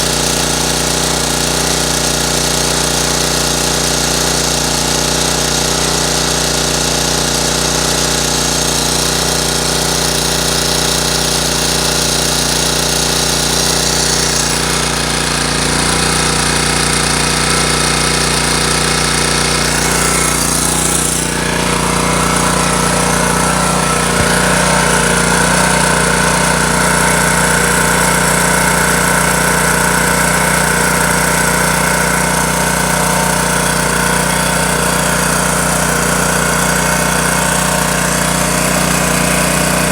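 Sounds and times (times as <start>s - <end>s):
portable generator running: 0.0s - 39.9s.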